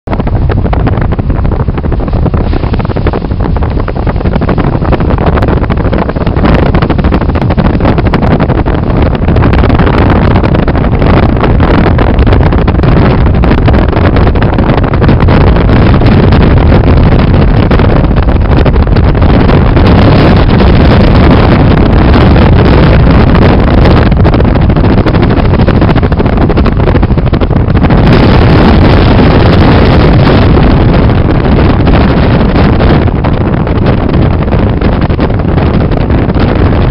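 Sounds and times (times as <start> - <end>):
low rumble: 0.0 - 36.9
wind buffeting microphone: 0.0 - 36.9.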